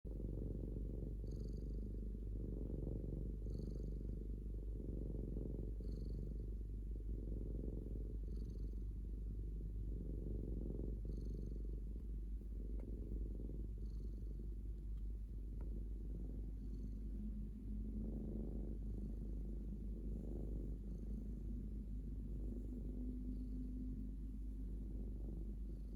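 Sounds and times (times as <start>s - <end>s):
cat purring low rumble: 0.1s - 25.9s.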